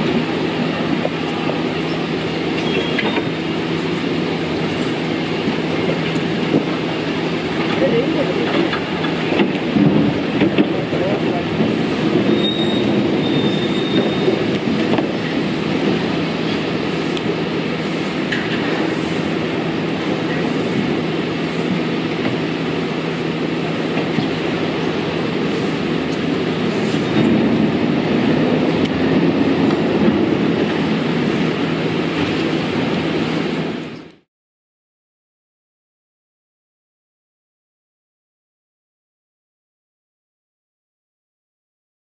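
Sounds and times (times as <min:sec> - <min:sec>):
motorized carts rumbling: 0:00.0 - 0:34.2.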